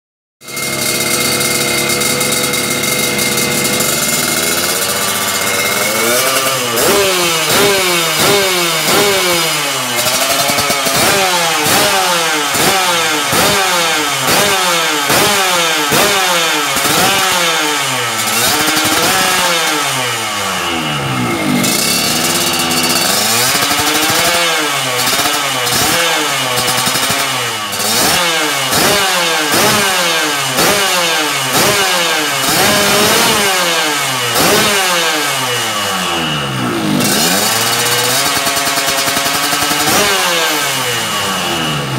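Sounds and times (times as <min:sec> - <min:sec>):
two-stroke motorcycle revving: 0:00.4 - 0:41.9.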